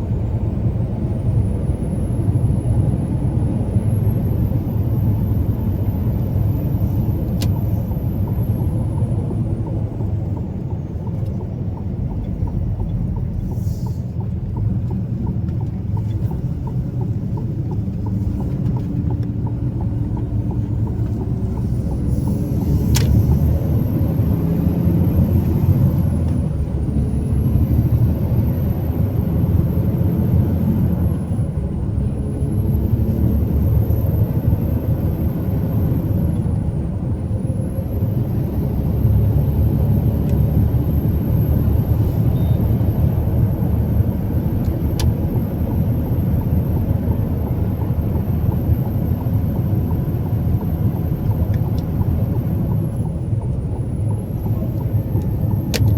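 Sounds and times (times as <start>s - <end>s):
road noise: 0.0s - 55.9s
truck engine rumble: 0.0s - 55.9s.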